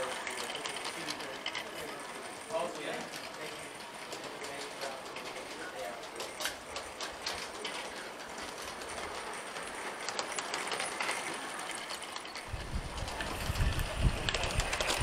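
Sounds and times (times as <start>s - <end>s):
model train wheels clicking: 0.0s - 15.0s.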